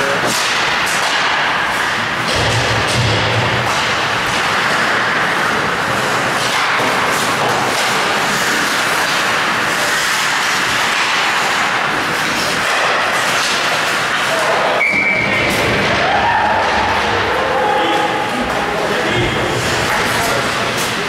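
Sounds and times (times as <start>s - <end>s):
ice rink crowd noise: 0.0s - 21.0s.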